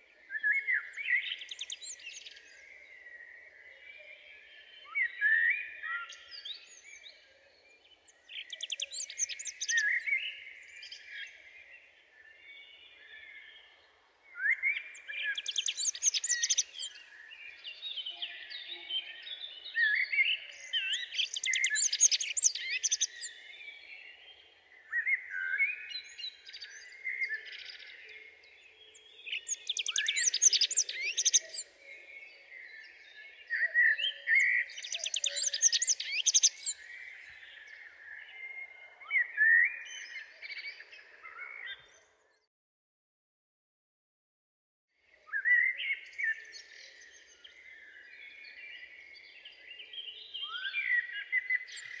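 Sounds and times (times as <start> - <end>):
songbird singing: 0.0 - 42.5, 45.1 - 52.0.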